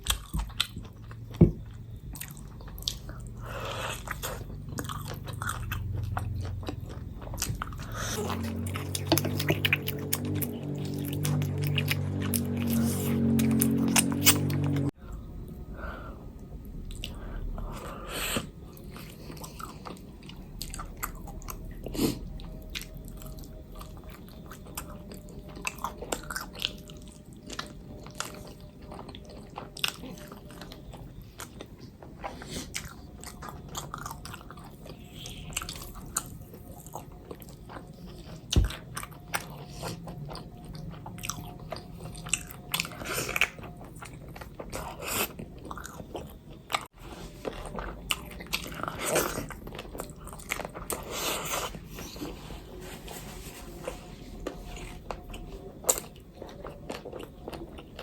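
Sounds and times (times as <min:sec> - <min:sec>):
food crunching: 0:00.0 - 0:14.9, 0:16.8 - 0:58.0
person chewing food: 0:00.0 - 0:58.0.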